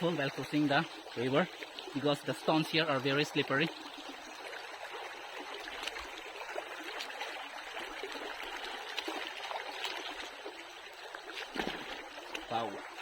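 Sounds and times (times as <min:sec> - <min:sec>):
river trickling over stones: 0:00.0 - 0:13.0.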